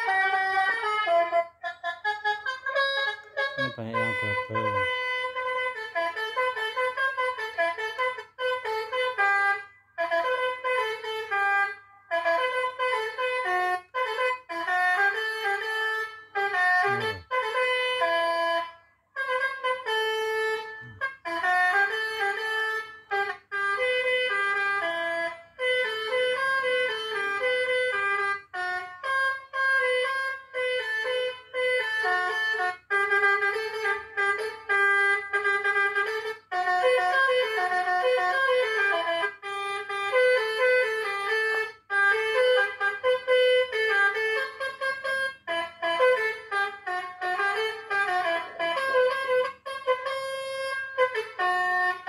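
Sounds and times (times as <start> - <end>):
bus horn playing a multi-note tune: 0.0 - 52.0.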